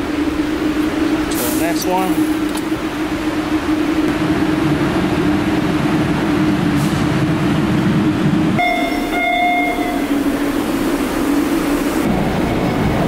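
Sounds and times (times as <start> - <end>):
train car hum and rumble: 0.0 - 13.0.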